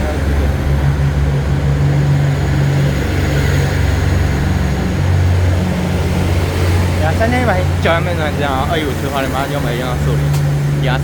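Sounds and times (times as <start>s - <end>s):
train low drone: 0.0s - 11.0s.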